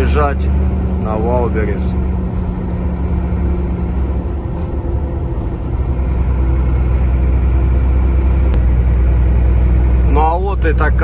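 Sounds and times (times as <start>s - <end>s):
road noise: 0.0s - 11.0s
truck engine drone in cab: 0.0s - 11.0s.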